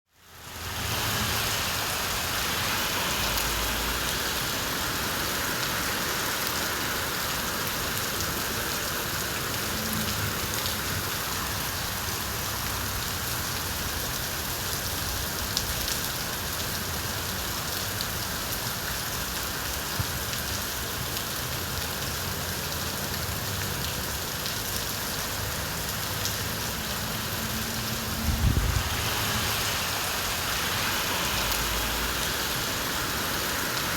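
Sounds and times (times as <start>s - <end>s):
rain falling on surfaces: 0.1s - 33.9s.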